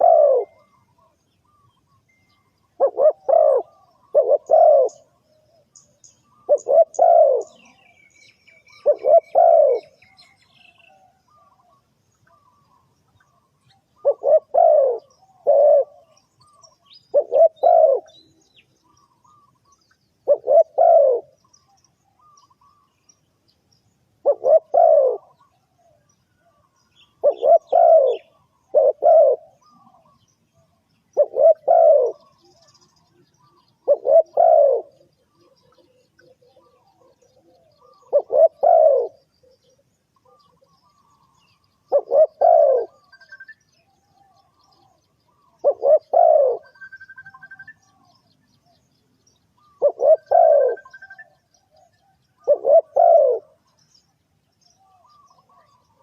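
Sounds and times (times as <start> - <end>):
dove cooing: 0.0 - 1.7, 2.7 - 18.3, 19.0 - 22.8, 24.2 - 48.8, 49.6 - 53.8, 54.8 - 56.0
small bird chirping: 0.0 - 56.0.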